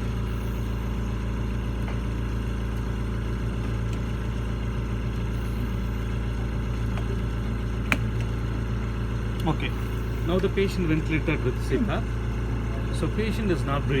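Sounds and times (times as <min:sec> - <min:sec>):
low mechanical hum of machinery: 0:00.0 - 0:14.0.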